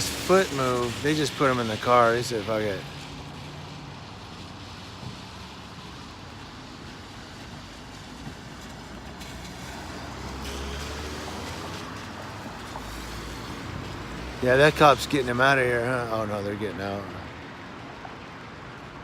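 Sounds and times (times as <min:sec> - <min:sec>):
street traffic noise: 0:00.0 - 0:19.0
vehicle engine rumble: 0:00.0 - 0:19.0.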